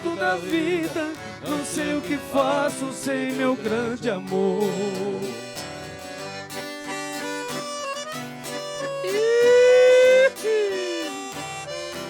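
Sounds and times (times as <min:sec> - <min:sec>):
bass and rhythm guitar beat: 0:00.0 - 0:12.0.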